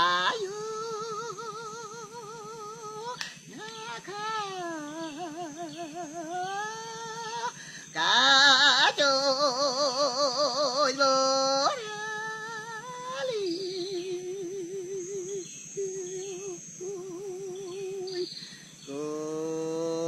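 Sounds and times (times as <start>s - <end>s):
person chanting with vibrato: 0.0s - 20.0s.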